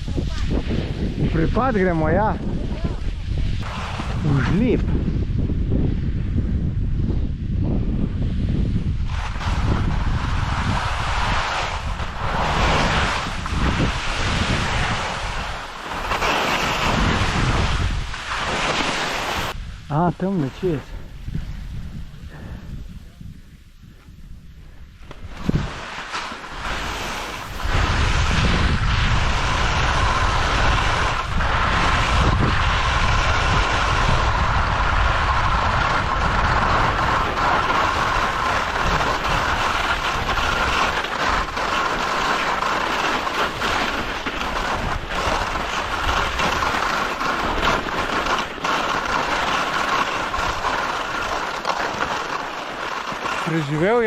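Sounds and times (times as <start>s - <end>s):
skis scraping on snow: 0.0s - 6.2s, 8.2s - 54.0s
wind over microphone: 0.0s - 54.0s.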